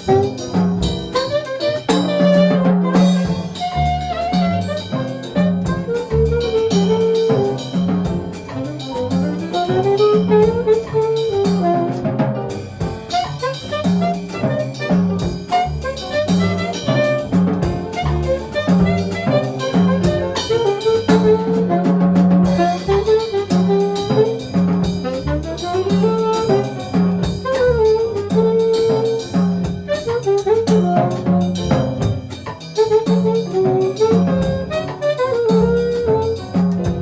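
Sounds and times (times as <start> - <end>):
horn line: 0.0 - 37.0
jazz quartet playing: 0.0 - 37.0.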